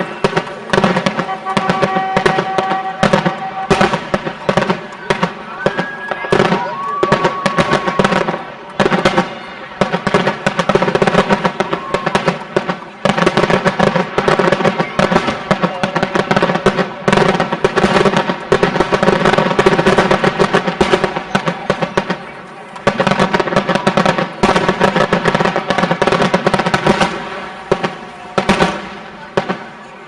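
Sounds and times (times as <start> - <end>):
fireworks cracking and banging: 0.0 - 30.0.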